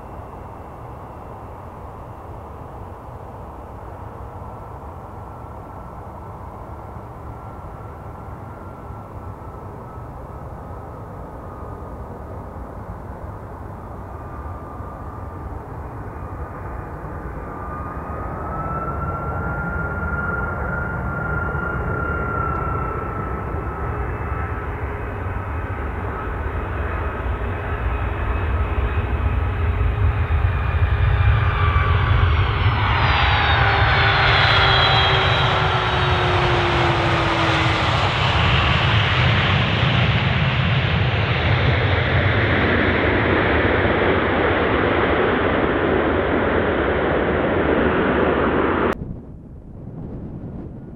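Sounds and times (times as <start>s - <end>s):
falling jet tone: 0.0s - 50.9s
jet engines whine and rush: 0.0s - 50.9s.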